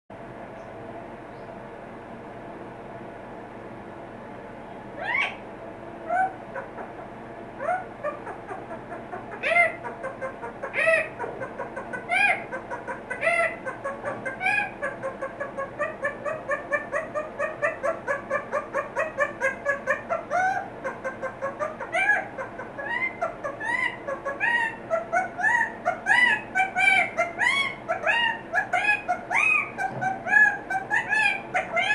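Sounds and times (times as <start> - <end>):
parrot calling: 5.0 - 31.9.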